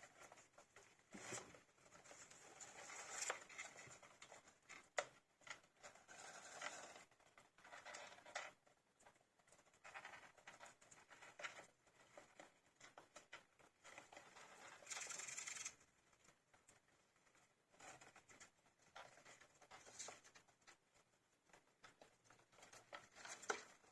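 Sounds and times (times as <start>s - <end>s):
hamster pups rustling: 0.0s - 23.9s.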